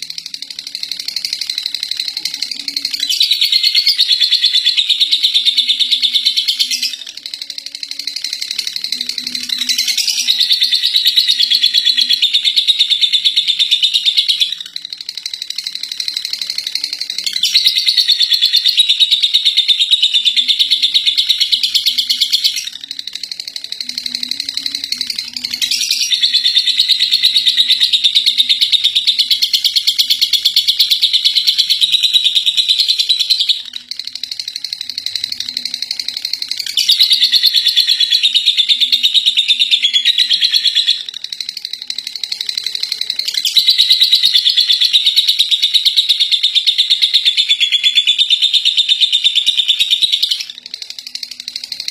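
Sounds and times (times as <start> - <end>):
lovebird chattering trill: 0.0 - 51.9.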